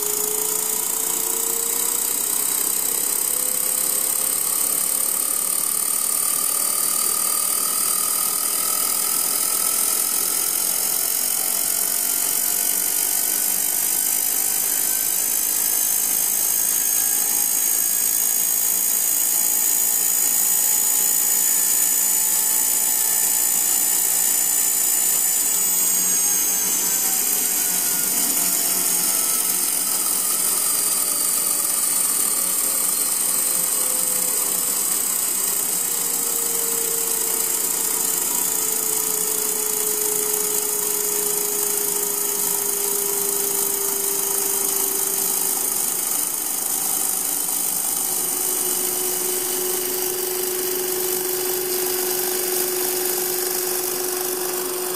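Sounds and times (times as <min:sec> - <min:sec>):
model turbofan motor whining: 0:00.0 - 0:54.9.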